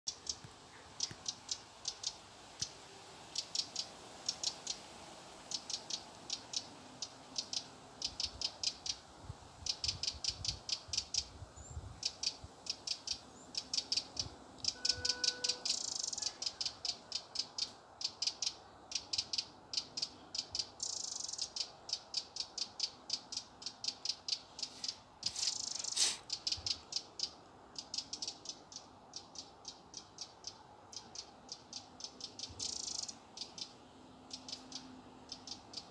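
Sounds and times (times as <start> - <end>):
wren rattling calls: 0.1 - 4.8, 5.5 - 9.0, 9.6 - 35.9.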